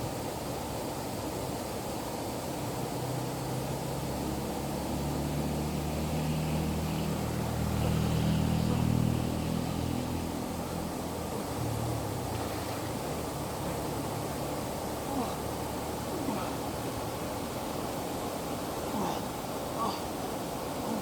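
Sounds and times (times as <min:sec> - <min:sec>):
stream water rushing: 0:00.0 - 0:21.0
low engine hum: 0:01.4 - 0:21.0.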